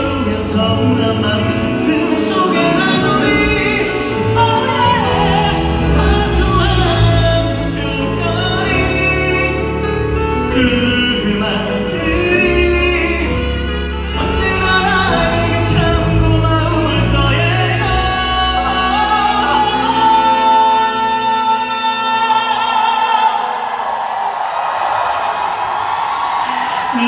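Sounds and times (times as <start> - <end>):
person singing: 0.0 - 23.9, 26.3 - 27.0
band playing: 0.0 - 27.0.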